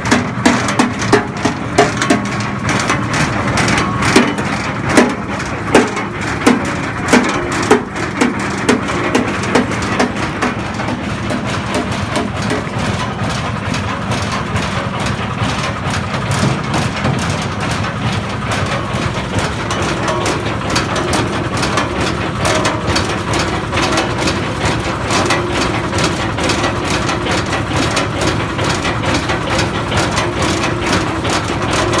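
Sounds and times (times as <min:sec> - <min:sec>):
feed machine engine running: 0:00.0 - 0:32.0.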